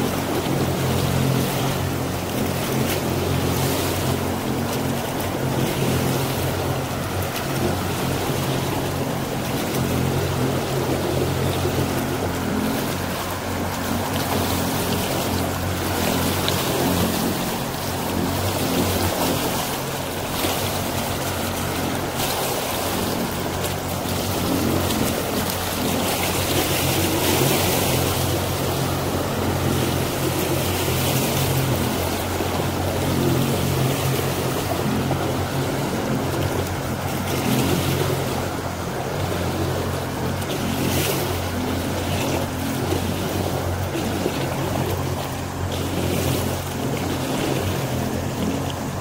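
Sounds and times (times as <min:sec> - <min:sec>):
motorboat engine hum: 0:00.0 - 0:49.0
rushing water: 0:00.0 - 0:49.0.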